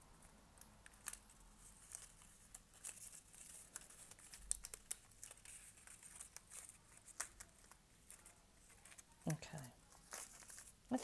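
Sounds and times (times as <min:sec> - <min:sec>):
small irregular ticks: 0:00.2 - 0:09.1
cardstock crinkling and rustling: 0:00.2 - 0:11.0.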